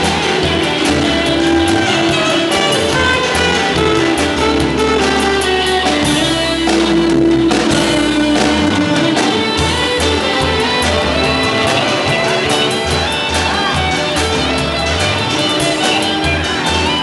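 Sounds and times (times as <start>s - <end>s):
bass line: 0.0s - 17.0s
drum beat: 0.0s - 17.0s
guitar: 0.0s - 17.0s.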